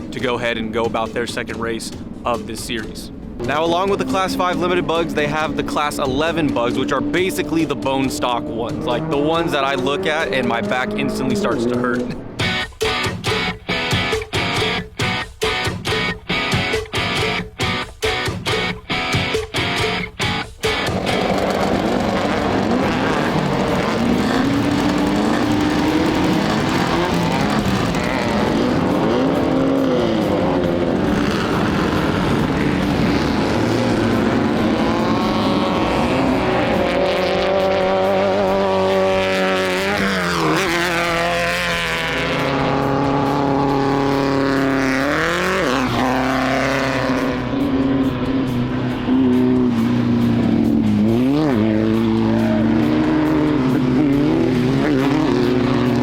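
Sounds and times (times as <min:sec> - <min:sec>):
cars passing by: 0:00.0 - 0:56.0
race car engines revving: 0:00.0 - 0:56.0.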